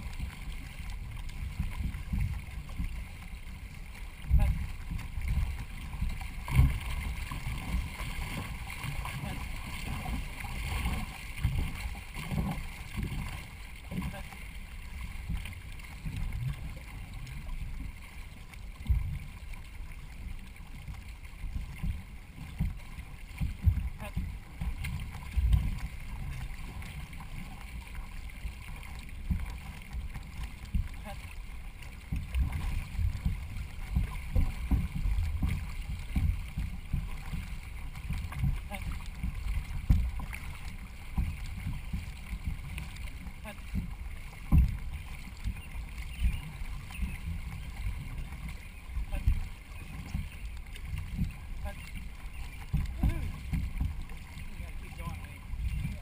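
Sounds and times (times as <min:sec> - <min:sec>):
paddle strokes: 0:00.0 - 0:56.0
water rushing along hull: 0:00.0 - 0:56.0.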